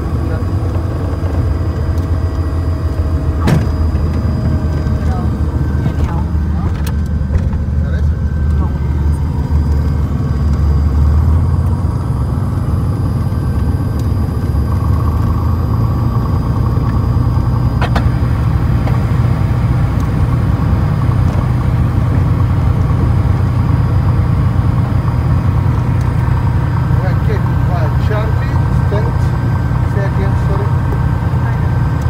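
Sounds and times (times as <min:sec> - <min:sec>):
aircraft engine drone in cabin: 0:00.0 - 0:32.0.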